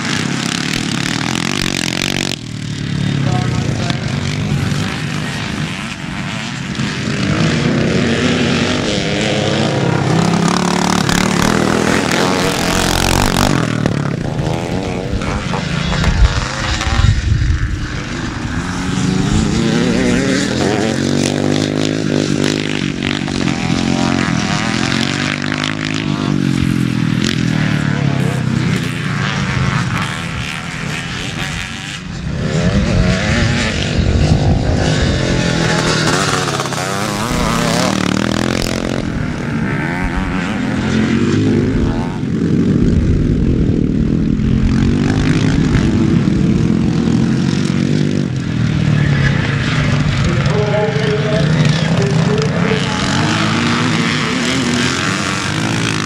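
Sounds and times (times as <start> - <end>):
motocross bikes revving: 0.0 - 56.0.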